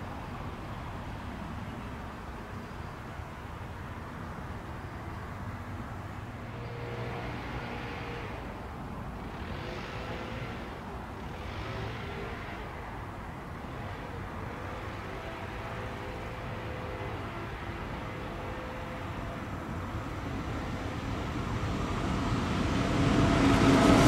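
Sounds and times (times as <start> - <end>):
distant traffic rumble: 0.0 - 24.0
vehicles passing: 0.0 - 24.0.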